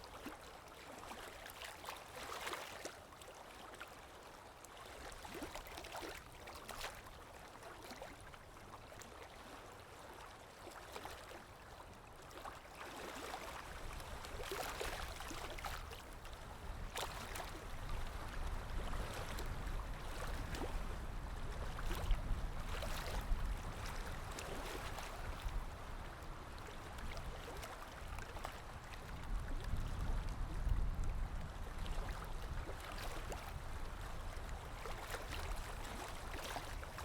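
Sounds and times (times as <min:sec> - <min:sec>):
water lapping and splashing: 0:00.0 - 0:37.0.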